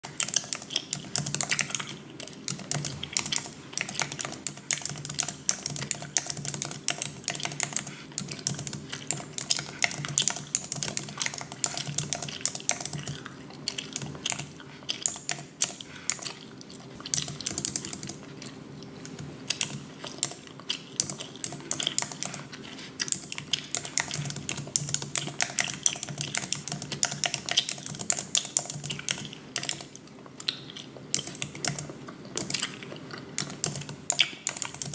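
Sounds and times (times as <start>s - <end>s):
rapid irregular clicking and tapping: 0.0s - 34.9s
steady low hum: 0.0s - 34.9s.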